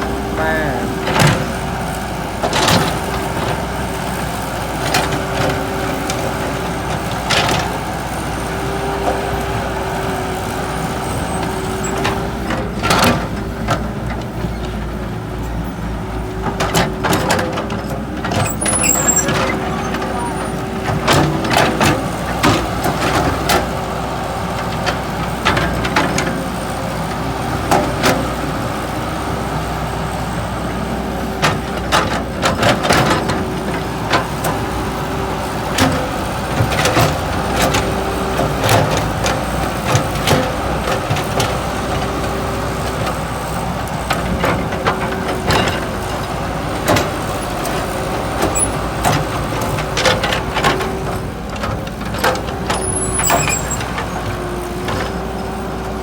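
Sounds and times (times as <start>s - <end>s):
heavy vehicle engine droning: 0.0s - 56.0s.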